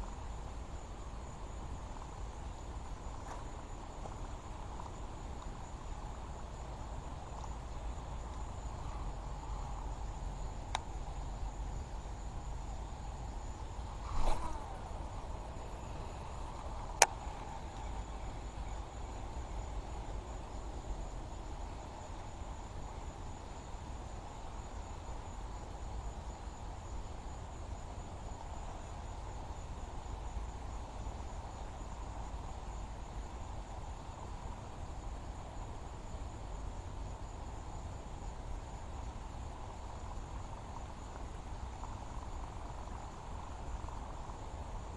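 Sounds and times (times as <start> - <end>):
crickets droning: 0.0 - 44.9
low outdoor rumble: 0.0 - 44.9.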